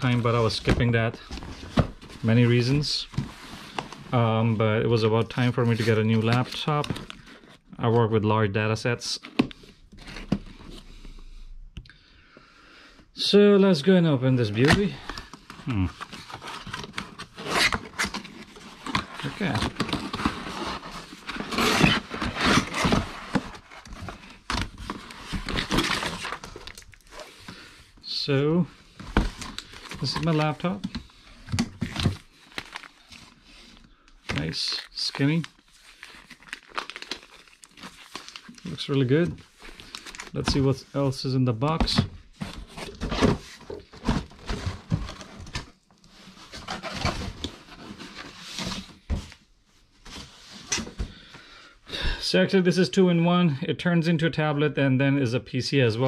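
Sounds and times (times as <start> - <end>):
cardboard and plastic rustling: 0.0 - 8.2, 14.4 - 51.2.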